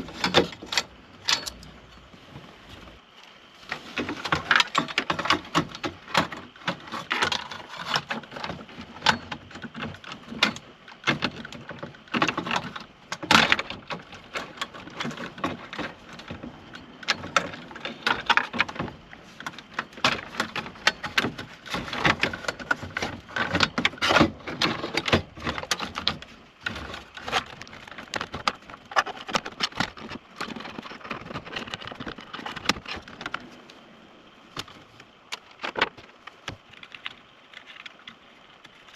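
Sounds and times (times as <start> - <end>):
plastic and metal parts rattling: 0.0 - 2.1, 3.7 - 33.6.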